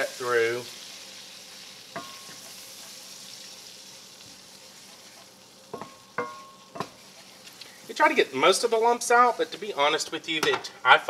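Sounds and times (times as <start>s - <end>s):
roux sizzling in a frying pan: 0.0s - 11.0s.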